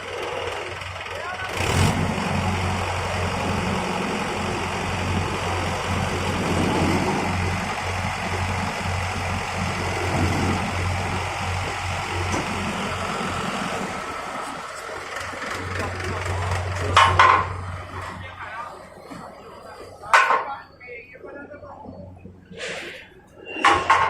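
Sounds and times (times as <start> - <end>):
diesel engine running: 0.0 - 20.2.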